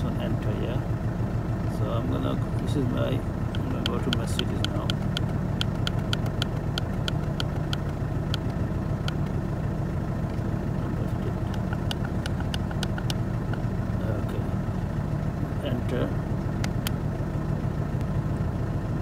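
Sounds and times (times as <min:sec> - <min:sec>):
car engine idling: 0:00.0 - 0:19.0
engine ticking: 0:00.0 - 0:19.0.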